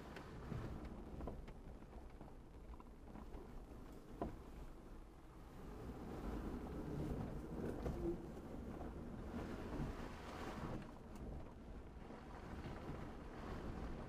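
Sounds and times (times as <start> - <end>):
truck engine and tyres rumbling: 0.0 - 14.0.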